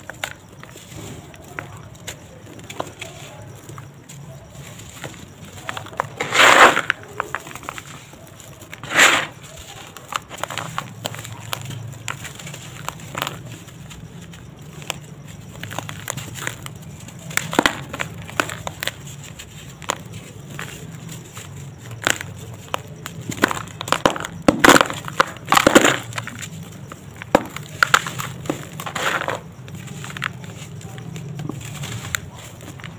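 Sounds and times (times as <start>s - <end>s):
hands crumbling dry cement lumps: 0.0s - 32.9s.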